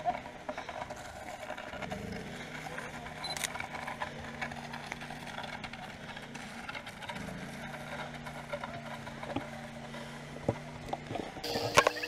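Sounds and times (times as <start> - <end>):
faint scraping and crackles: 0.0 - 11.9
low mechanical hum: 0.0 - 12.0.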